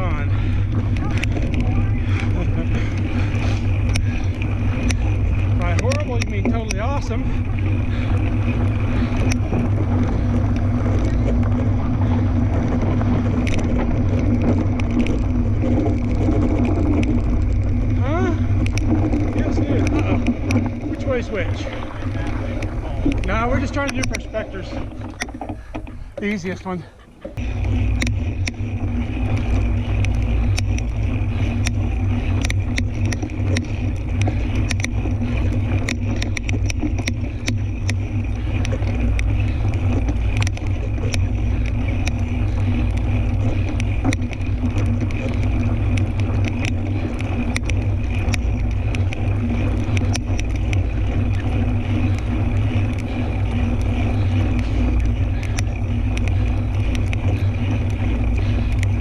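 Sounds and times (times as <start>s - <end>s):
bike clicks and rattles: 0.0s - 59.0s
wind and tyre rumble: 0.0s - 59.0s.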